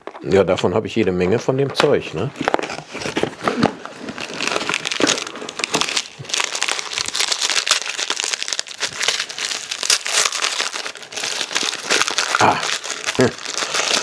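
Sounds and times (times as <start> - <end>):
packaging crinkling: 2.4 - 14.0.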